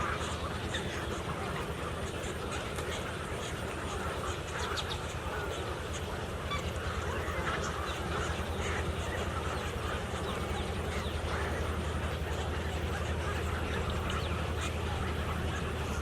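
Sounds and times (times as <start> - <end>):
flock of birds calling: 0.0 - 16.0
steady low hum: 0.0 - 16.0.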